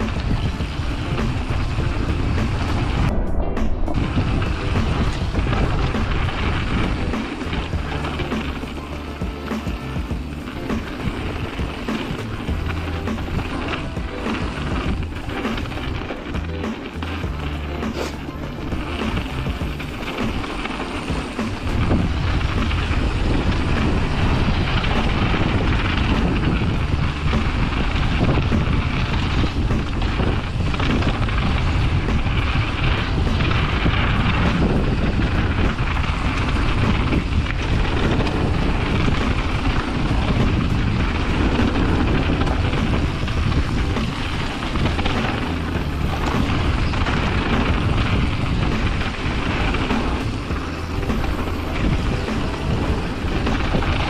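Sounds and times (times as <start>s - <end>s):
bike rumbling and rattling: 0.0s - 54.0s
wind rushing over microphone: 0.0s - 54.0s.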